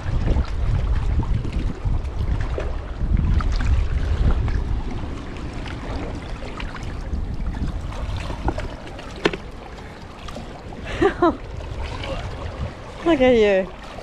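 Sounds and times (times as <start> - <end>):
water lapping against rocks: 0.0 - 14.0
wind buffeting microphone: 0.0 - 14.0.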